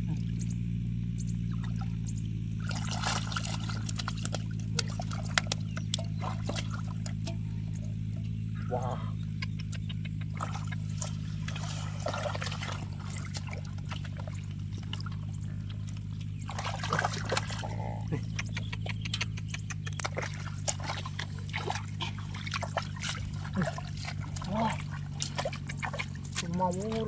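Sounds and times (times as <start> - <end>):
muddy water trickling and splashing: 0.0 - 27.0
steady low hum: 0.0 - 27.0.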